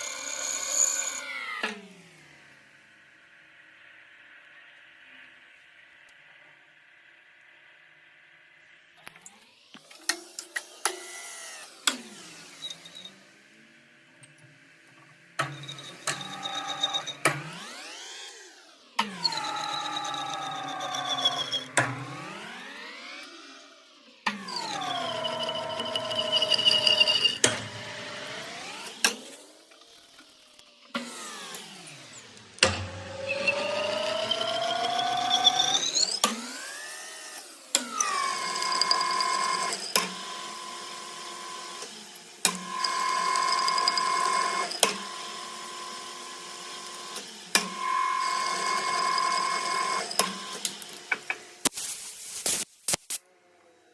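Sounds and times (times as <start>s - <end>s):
power tool motor whining: 0.0s - 2.4s, 9.2s - 13.6s, 15.4s - 51.7s.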